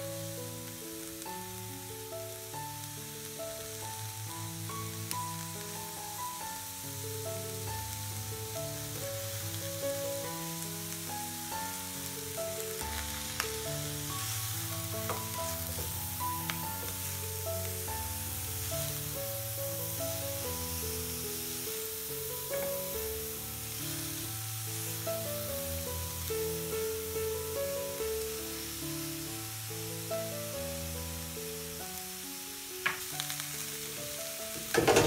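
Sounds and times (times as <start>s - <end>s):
cabbage sizzling in a pan: 0.0s - 35.0s.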